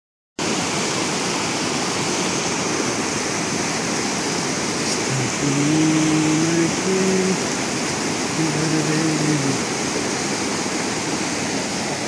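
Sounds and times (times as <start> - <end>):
stream rushing over boulders: 0.4 - 12.0.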